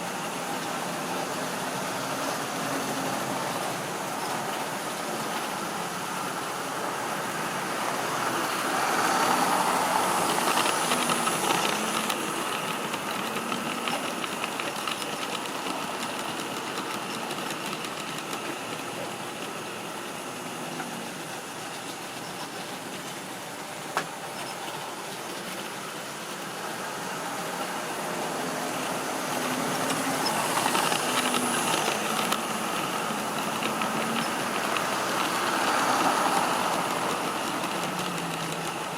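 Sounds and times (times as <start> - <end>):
model train motor whirring: 0.0 - 38.9
wheels rolling on track: 0.0 - 38.9.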